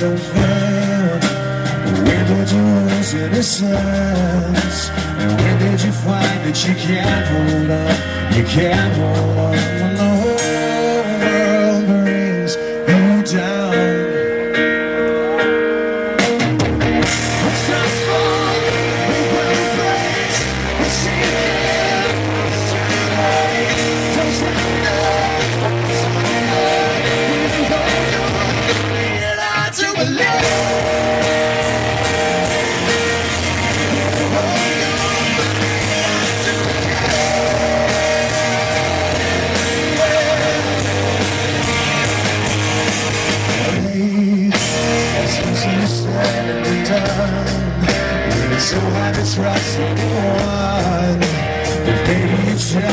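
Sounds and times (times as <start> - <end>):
person singing: 0.0 - 14.4, 17.2 - 42.0, 43.6 - 52.9
electric guitars: 0.0 - 52.9
rock band playing: 0.0 - 52.9.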